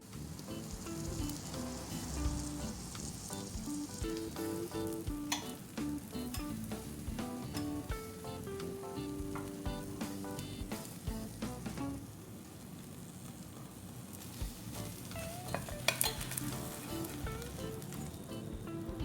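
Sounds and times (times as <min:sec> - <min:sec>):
light background music: 0:00.0 - 0:12.1, 0:14.4 - 0:19.0
food sizzling in a pan: 0:00.0 - 0:18.5.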